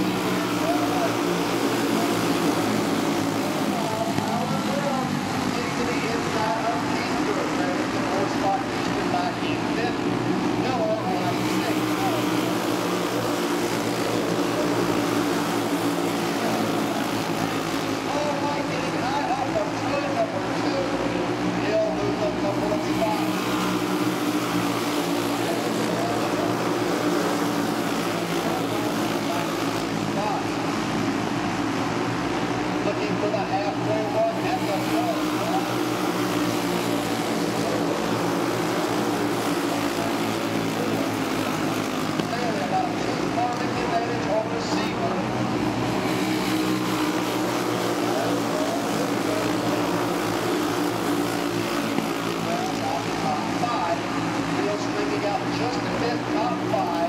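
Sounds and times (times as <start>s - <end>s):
racing kart engines droning: 0.0s - 57.0s.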